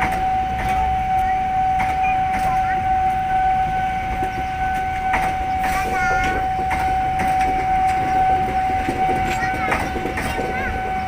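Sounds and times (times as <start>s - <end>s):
train rumbling with high whine: 0.0s - 11.0s.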